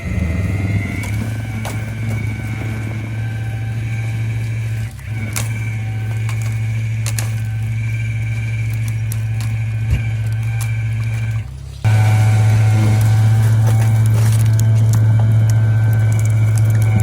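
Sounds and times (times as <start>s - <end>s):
high-pitched whine: 0.0s - 17.0s
truck engine humming: 0.0s - 17.0s.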